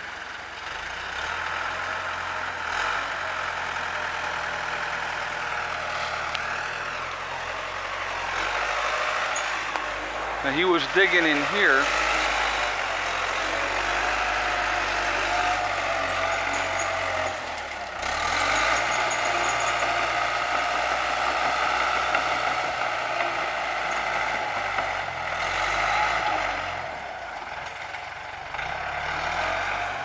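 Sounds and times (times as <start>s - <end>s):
bulldozer diesel engine: 0.0s - 30.0s.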